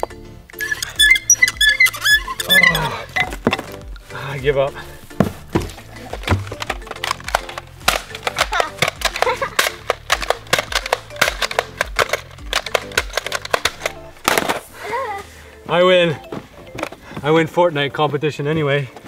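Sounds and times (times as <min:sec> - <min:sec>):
music with steady beat: 0:00.0 - 0:15.3.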